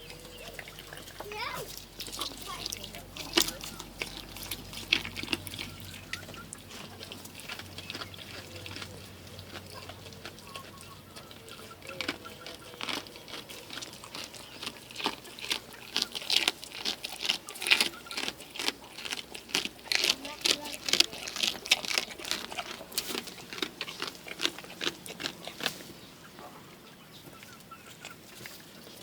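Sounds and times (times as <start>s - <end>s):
goat chewing with crunching clicks: 0.0s - 26.0s, 27.3s - 29.0s.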